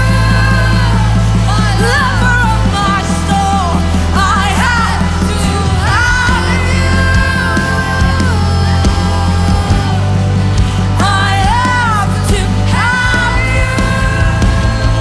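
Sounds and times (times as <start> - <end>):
live worship band music: 0.0 - 15.0
person singing: 0.0 - 15.0.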